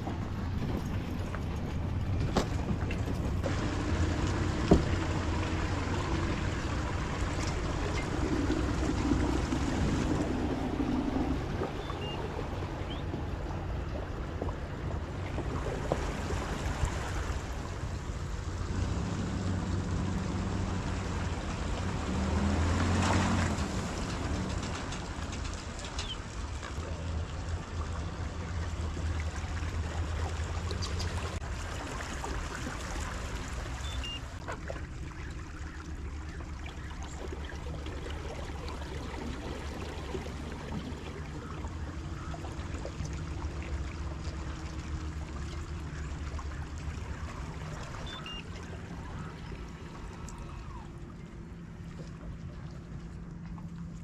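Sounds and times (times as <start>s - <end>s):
low rumble of wind: 0.0s - 54.0s
water on open water: 0.0s - 54.0s.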